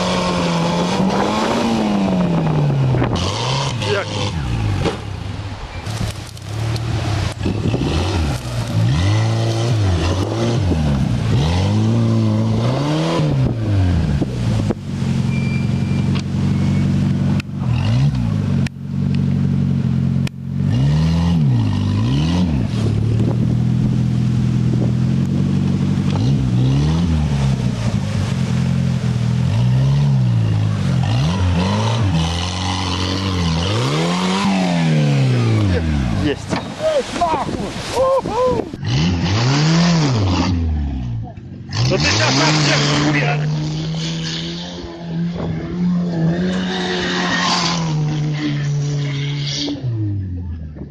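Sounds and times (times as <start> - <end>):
buggy engine revving: 0.0 - 37.9, 38.6 - 50.9.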